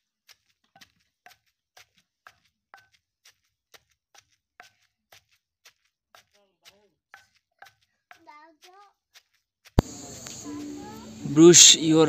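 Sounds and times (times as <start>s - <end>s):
stone pestle pounding in mortar: 0.3s - 10.7s.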